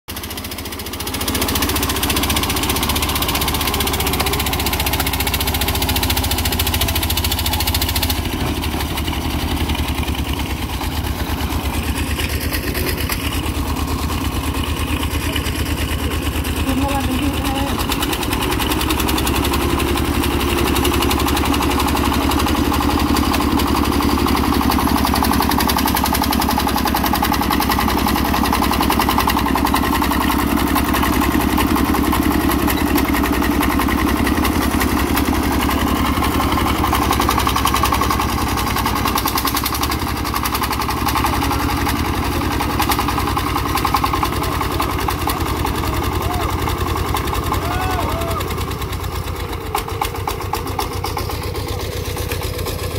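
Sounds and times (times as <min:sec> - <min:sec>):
diesel tractor engine chugging: 0:00.1 - 0:52.9.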